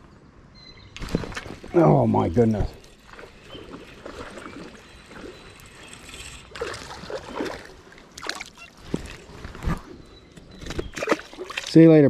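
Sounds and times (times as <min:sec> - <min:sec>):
water splashing and sloshing: 0:01.0 - 0:12.0.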